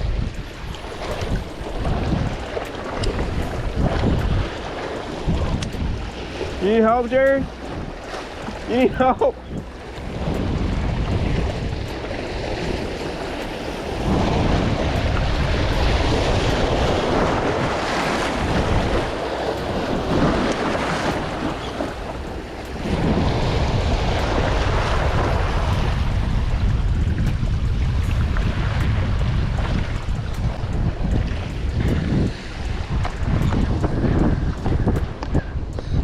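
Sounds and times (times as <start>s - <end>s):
surf washing against jetty: 0.0s - 36.0s
wind buffeting microphone: 0.0s - 36.0s.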